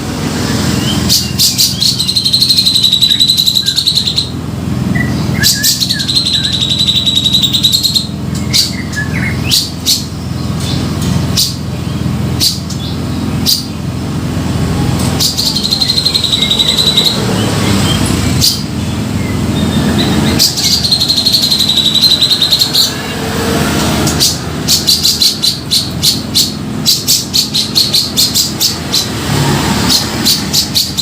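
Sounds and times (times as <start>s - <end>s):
steady low hum: 0.0s - 31.0s
bird buzzing trills: 0.8s - 4.4s, 5.0s - 31.0s.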